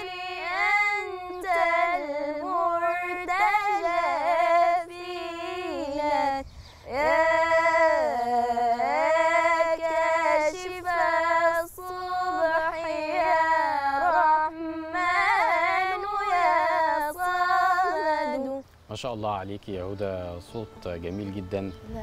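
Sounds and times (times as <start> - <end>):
girl singing a religious chant: 0.0 - 18.7.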